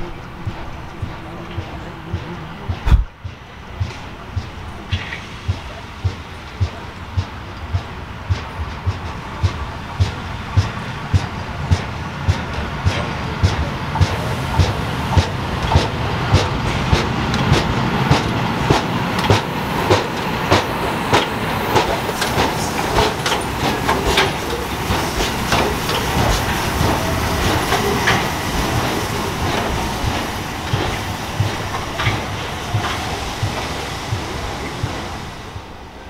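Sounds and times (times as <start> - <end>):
train wheels clickety-clack: 0.0 - 36.0.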